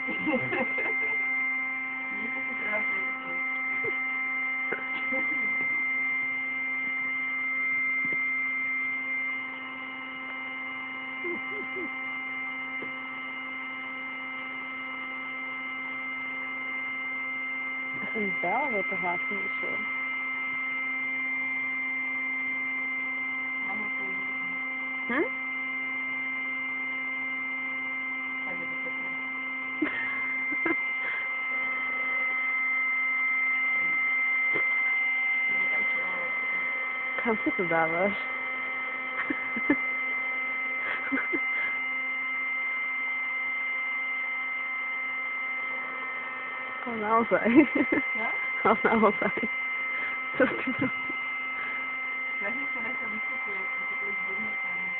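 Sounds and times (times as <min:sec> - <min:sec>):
electric air pump humming: 0:00.0 - 0:54.9.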